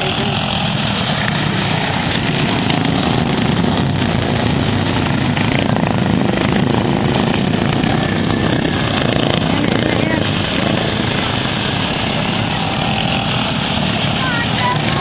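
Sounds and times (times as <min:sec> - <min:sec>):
lawn mower engines at full throttle: 0:00.0 - 0:15.0.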